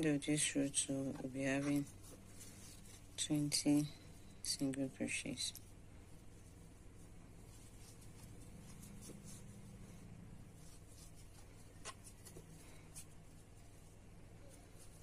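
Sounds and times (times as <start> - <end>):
crochet hook scratching yarn: 0.0 - 15.0
low room hum: 0.0 - 15.0.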